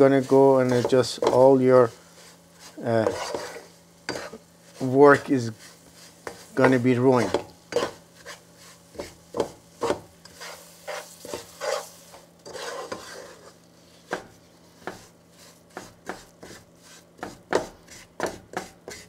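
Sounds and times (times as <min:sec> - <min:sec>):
wooden spoon scraping a pot: 0:00.0 - 0:19.0.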